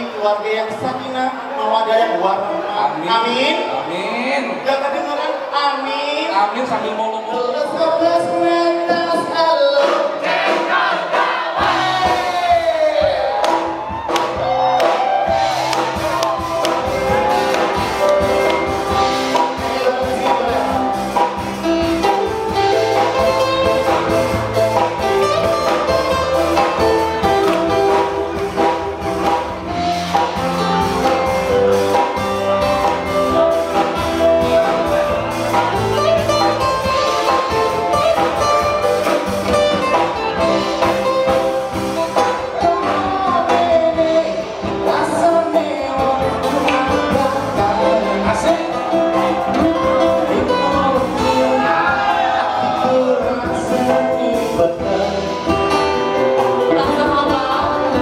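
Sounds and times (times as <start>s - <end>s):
song over loudspeakers: 0.0s - 58.0s.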